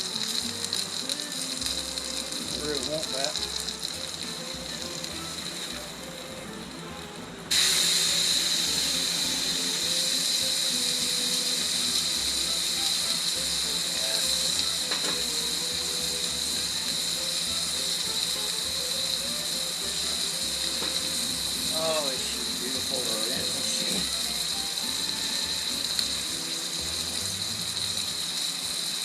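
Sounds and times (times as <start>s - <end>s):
steak sizzling on griddle: 0.0s - 29.0s.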